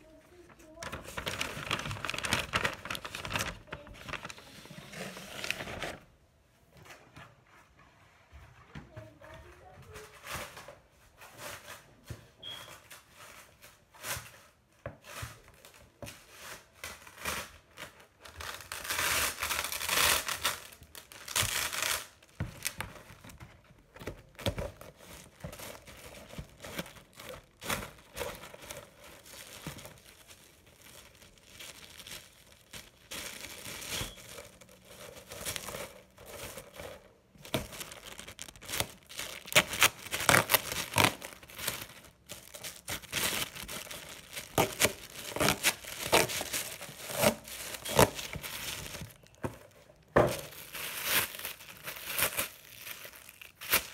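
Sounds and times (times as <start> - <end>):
plastic wrap rustling and crackling: 0.0 - 6.3, 8.5 - 53.9.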